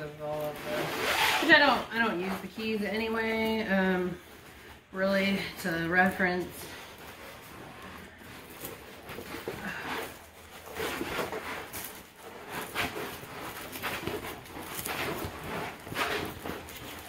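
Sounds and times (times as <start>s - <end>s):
plastic film rustling and crinkling: 0.0s - 17.0s.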